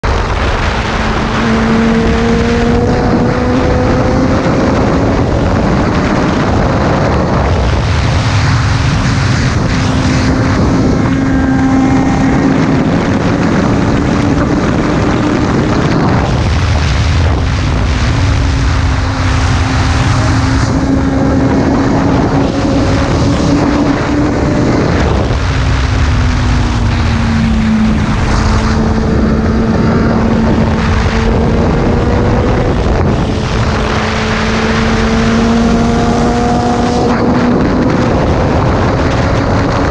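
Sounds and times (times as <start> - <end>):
motorcycle engine running hard: 0.0 - 39.9
rush of wind: 0.0 - 39.9.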